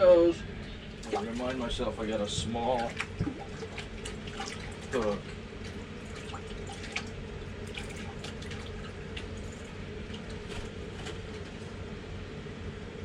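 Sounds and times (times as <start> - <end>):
steady low hum: 0.0 - 13.0
water dripping and splashing: 1.0 - 11.6.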